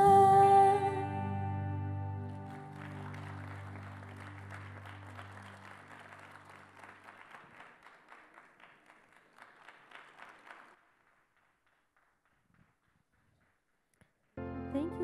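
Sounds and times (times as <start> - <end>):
audience applauding: 2.2 - 14.3.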